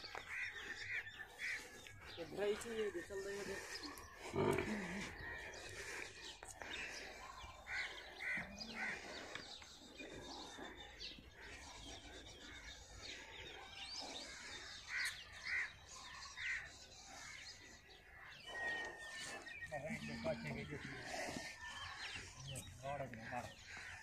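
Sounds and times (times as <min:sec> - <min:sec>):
birds chirping and calling: 0:00.0 - 0:24.0.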